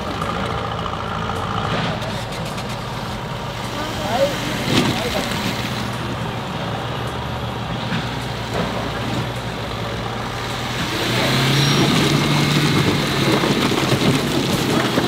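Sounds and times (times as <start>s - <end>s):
car engine revving under load: 0.0s - 15.0s
stones grinding under tyres: 1.3s - 6.4s, 7.1s - 15.0s.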